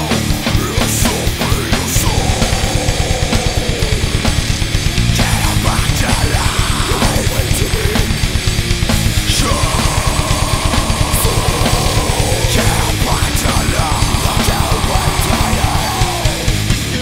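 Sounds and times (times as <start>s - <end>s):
heavy rock band playing live: 0.0s - 17.0s.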